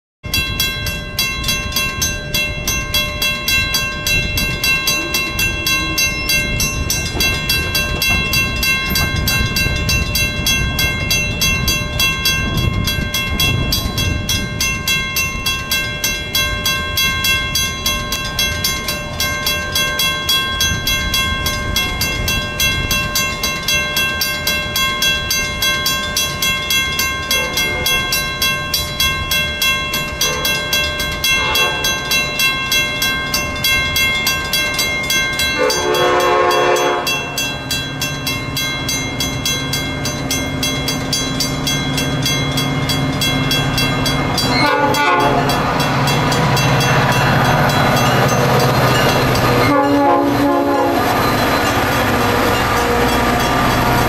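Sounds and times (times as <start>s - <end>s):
railroad crossing bell ringing: 0.2s - 54.0s.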